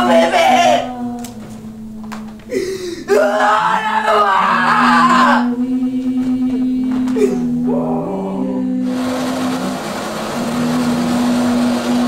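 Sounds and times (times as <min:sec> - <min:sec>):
low drone: 0:00.0 - 0:12.0
wavering voice-like melody: 0:00.0 - 0:12.0.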